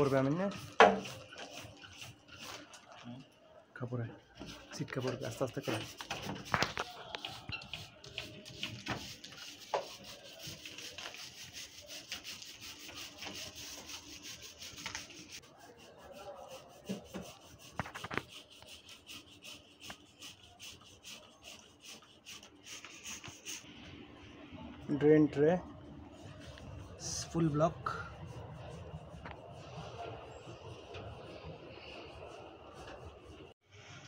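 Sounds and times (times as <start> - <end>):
rubbing and scraping by hand: 0.0 - 3.0, 4.4 - 23.7, 25.9 - 33.6.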